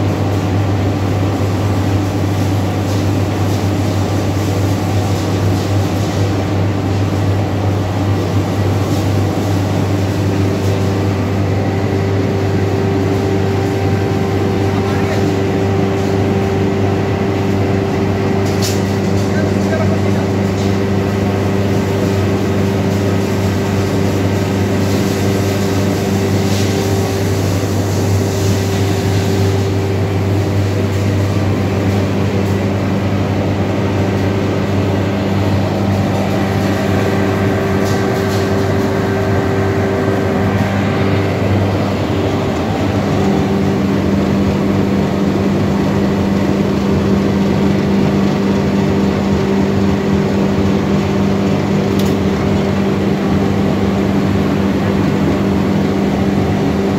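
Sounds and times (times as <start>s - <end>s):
machinery motors humming: 6.4s - 56.9s.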